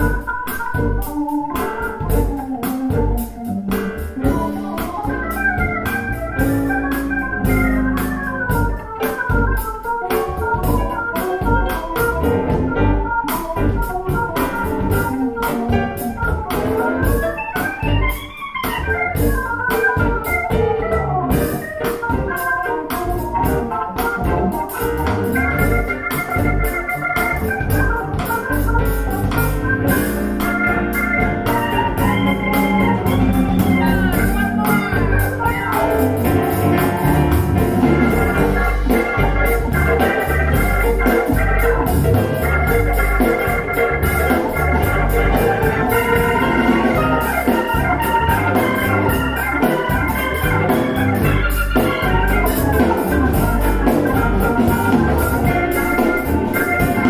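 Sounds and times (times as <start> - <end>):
bass and drum beat: 0.0 - 57.0
keyboard chords: 0.0 - 57.0.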